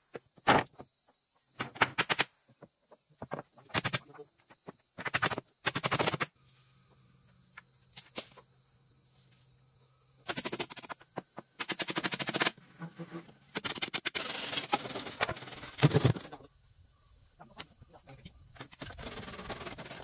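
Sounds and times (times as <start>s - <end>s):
high insect buzz: 2.3s - 20.0s.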